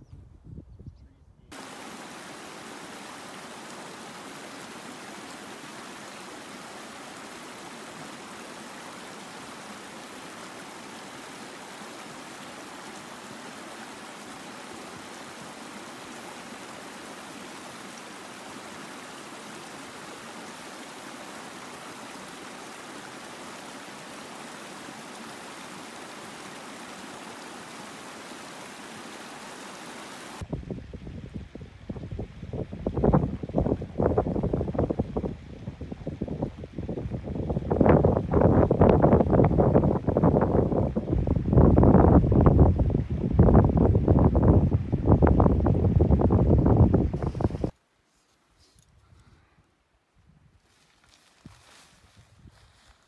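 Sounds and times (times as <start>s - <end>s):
stream running over rocks: 1.5s - 30.5s, 32.0s - 47.8s.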